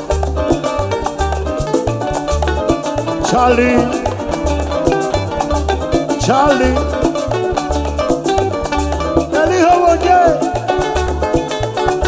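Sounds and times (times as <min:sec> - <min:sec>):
guitar: 0:00.0 - 0:12.0
hand percussion: 0:00.0 - 0:12.0
upright bass: 0:00.0 - 0:12.0.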